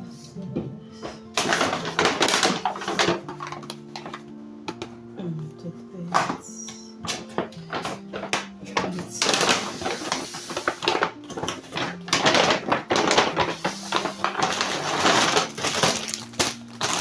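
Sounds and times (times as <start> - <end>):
soft background music: 0.0 - 17.0
objects rustling and knocking: 0.5 - 5.1, 6.1 - 17.0.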